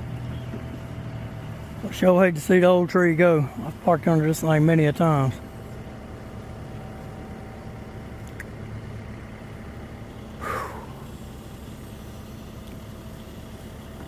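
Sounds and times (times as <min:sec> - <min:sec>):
heavy vehicle engine idling: 0:00.0 - 0:14.0.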